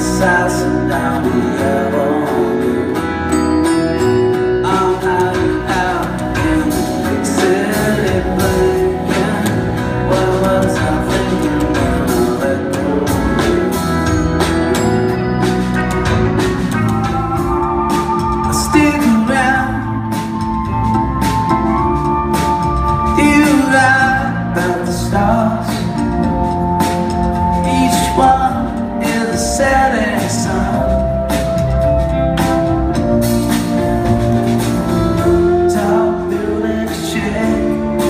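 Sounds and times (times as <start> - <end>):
person singing: 0.0 - 14.2, 16.8 - 31.7, 35.2 - 38.0
live rock band: 0.0 - 38.0.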